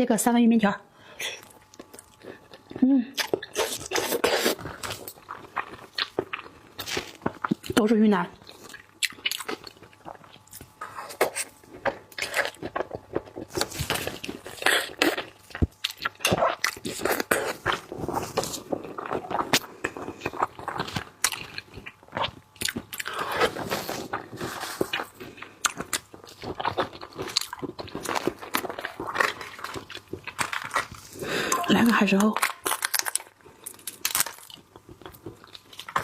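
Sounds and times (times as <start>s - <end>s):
person chewing raw fish: 1.4s - 7.7s, 8.4s - 31.7s, 32.4s - 36.0s.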